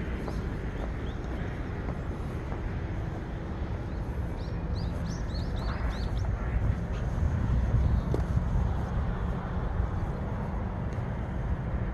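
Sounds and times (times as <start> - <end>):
low outdoor rumble: 0.0 - 11.9.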